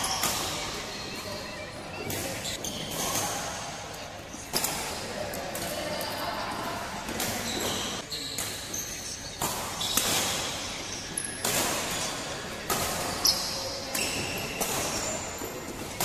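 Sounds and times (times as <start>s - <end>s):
shoes squeaking on court mat: 0.0s - 5.5s, 7.1s - 16.0s.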